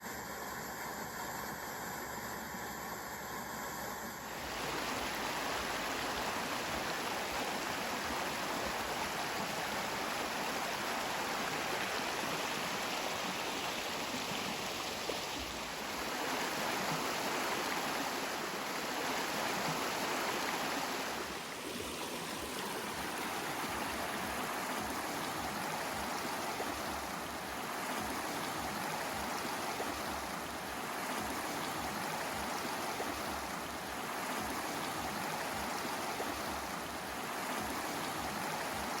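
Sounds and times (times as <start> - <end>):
flowing water: 0.0 - 39.0.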